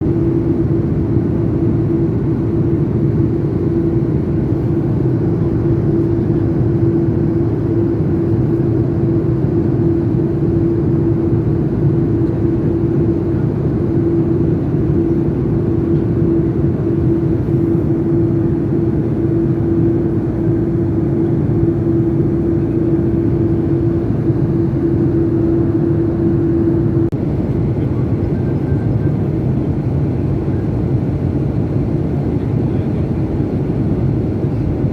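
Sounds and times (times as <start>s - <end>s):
airplane engine drone: 0.0s - 34.9s
constant hum tone: 0.0s - 34.9s.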